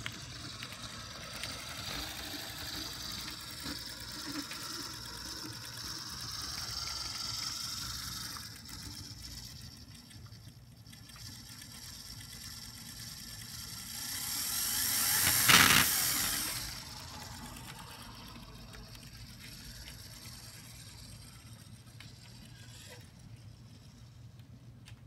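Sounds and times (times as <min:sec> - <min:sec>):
model locomotive motors humming: 0:00.0 - 0:25.0
wheels clicking on rail joints: 0:00.0 - 0:25.0.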